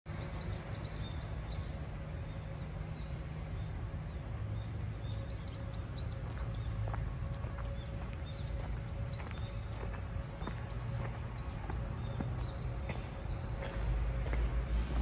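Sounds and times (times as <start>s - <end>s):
small birds chirping: 0.1s - 13.7s
low city rumble: 0.1s - 15.0s.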